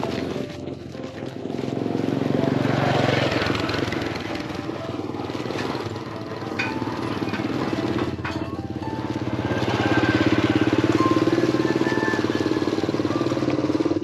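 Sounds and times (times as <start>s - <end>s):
small engine passing: 0.0s - 14.0s.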